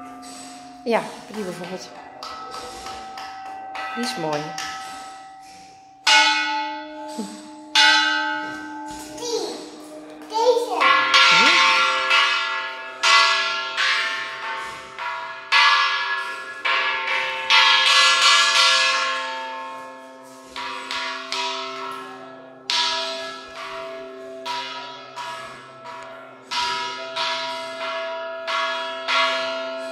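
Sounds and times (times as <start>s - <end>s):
church bells struck with mallet: 0.0s - 29.9s.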